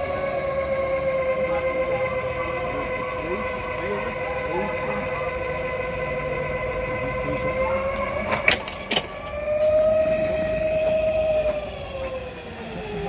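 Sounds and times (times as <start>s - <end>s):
mechanical lure whining on rail: 0.0s - 13.0s.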